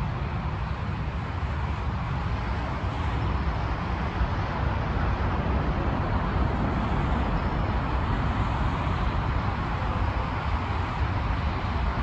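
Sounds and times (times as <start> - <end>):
distant jet engine roar: 0.0 - 12.0.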